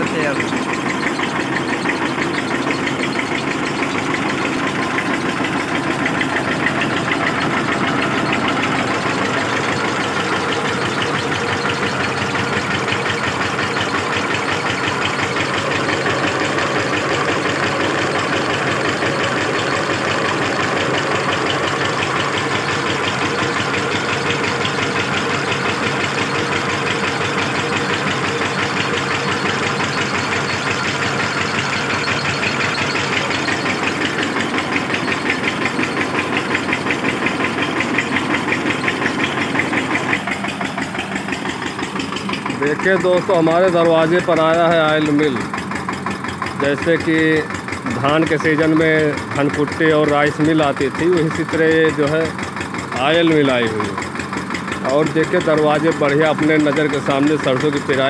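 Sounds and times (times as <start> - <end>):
engine running with fast pulsing: 0.0 - 58.0
oil press grinding: 0.0 - 58.0.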